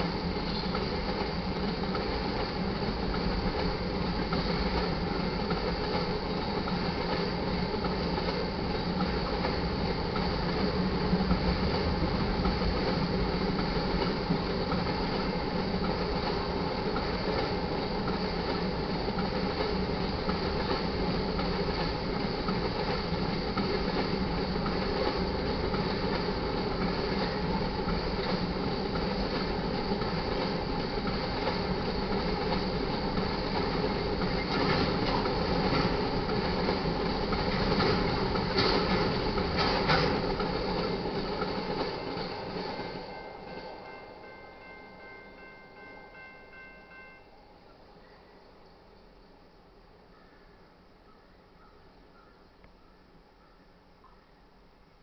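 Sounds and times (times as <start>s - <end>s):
steel wheels on rails: 0.0s - 47.4s
freight train rolling past: 0.0s - 50.1s.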